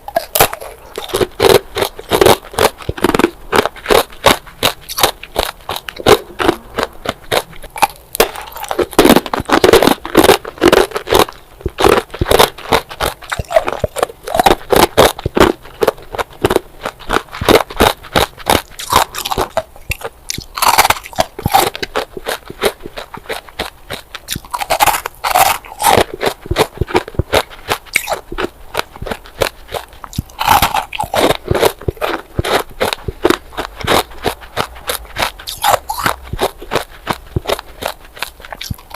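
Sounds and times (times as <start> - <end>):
ice being bitten and chewed: 0.0 - 38.9.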